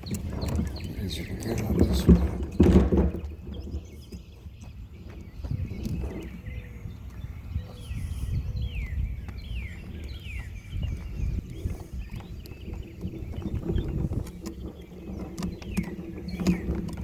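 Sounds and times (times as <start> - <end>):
garbage can rolling on road: 0.0 - 7.2, 9.7 - 17.0.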